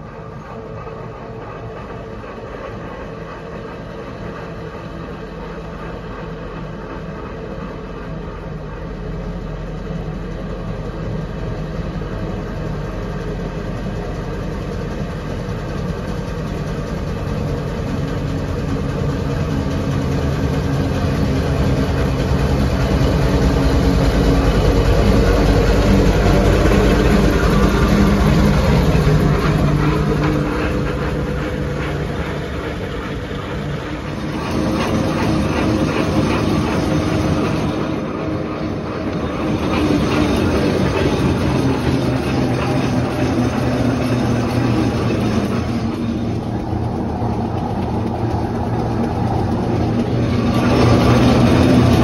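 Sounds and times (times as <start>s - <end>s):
steam traction engine driving: 0.0s - 52.0s.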